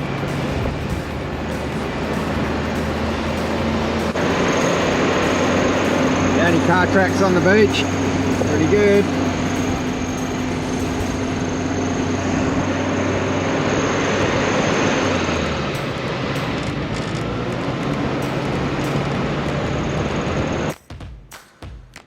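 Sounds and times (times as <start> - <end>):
vehicle engine driving: 0.0 - 20.7
wind noise: 0.0 - 20.7.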